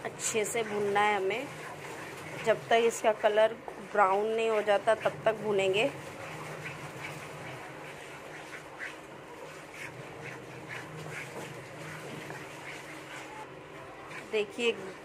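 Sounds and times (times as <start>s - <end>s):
steady sizzle: 0.0s - 15.0s.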